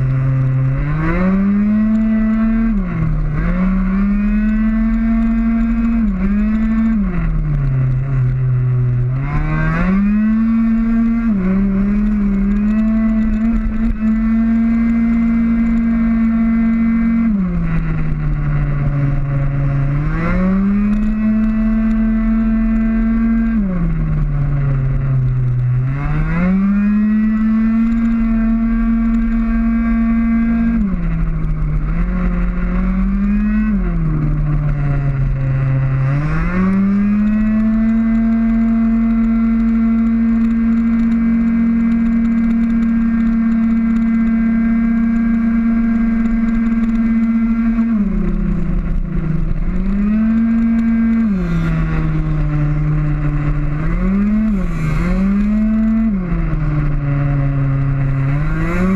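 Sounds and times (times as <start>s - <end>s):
scooter engine at full throttle: 0.0s - 58.9s.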